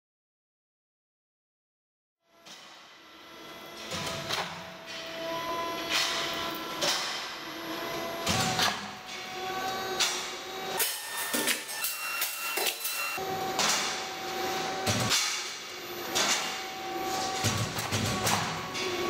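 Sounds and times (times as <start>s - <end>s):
machine hum with steady tones: 2.3s - 19.0s.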